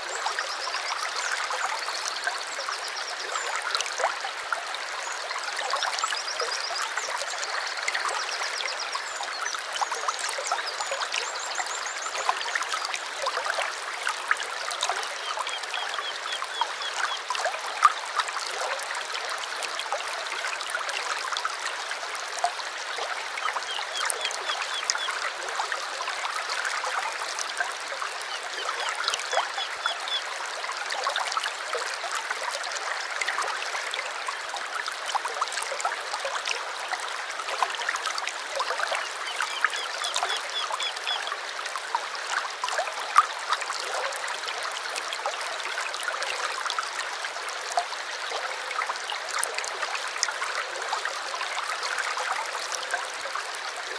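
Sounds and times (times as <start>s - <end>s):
stream babbling over stones: 0.0s - 53.9s.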